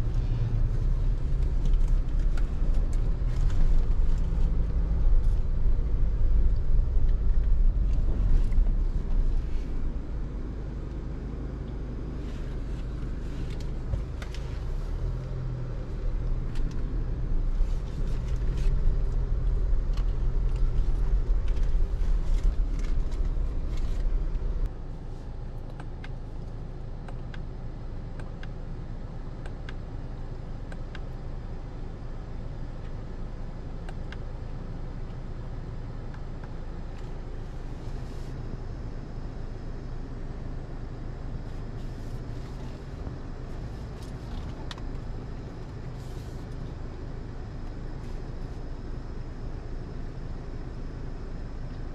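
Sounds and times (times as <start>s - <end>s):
engine and tyre rumble: 0.0s - 51.9s.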